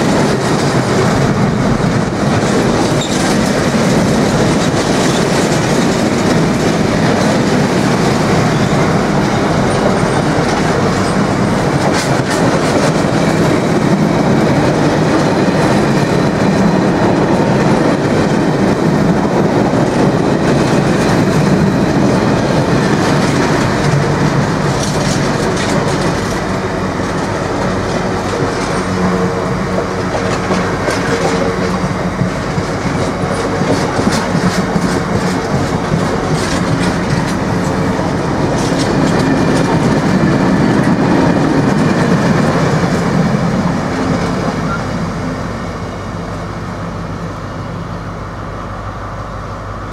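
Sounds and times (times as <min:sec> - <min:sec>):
freight train wheels clattering: 0:00.0 - 0:46.4.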